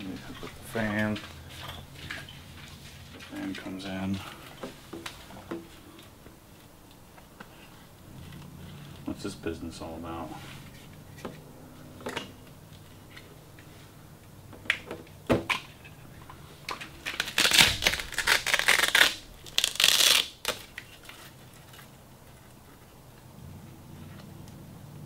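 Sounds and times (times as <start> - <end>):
rustling and crinkling: 0.0 - 24.4
faint low hum: 0.0 - 25.0.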